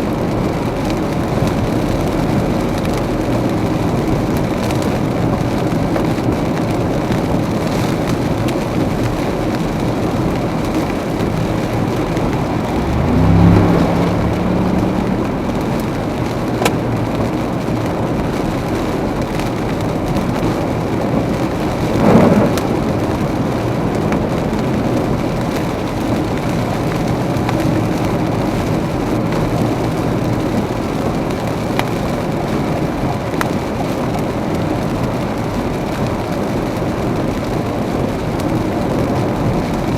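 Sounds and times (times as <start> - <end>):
car tyres on wet road: 0.0 - 39.9
heavy rain: 0.0 - 39.9.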